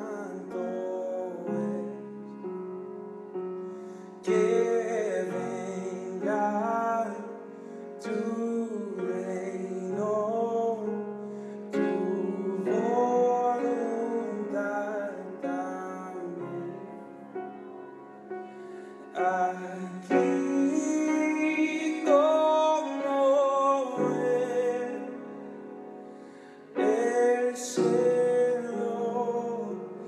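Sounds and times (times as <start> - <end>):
person singing with vibrato: 0.0 - 2.6, 3.8 - 30.0.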